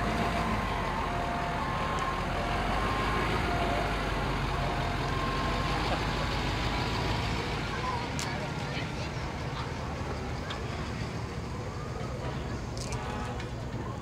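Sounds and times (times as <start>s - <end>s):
pickup truck engine running: 0.0s - 11.7s.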